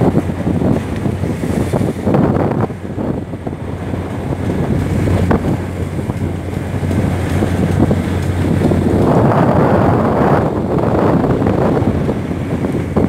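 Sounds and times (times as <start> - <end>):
boat low hum: 0.0 - 13.0
rough seas against hull: 0.0 - 13.0
wind buffeting microphone: 0.0 - 13.0.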